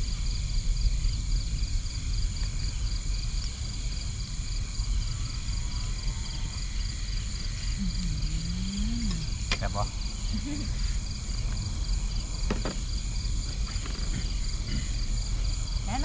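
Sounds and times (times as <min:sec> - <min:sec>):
insects chirping: 0:00.0 - 0:16.0
low rumble: 0:00.0 - 0:16.0.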